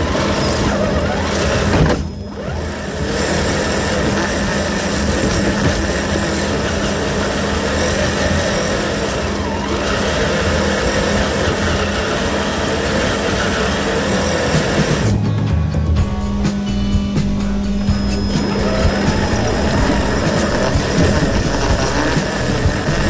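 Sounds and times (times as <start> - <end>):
toy truck electric motor running: 0.0 - 15.2, 17.7 - 23.0.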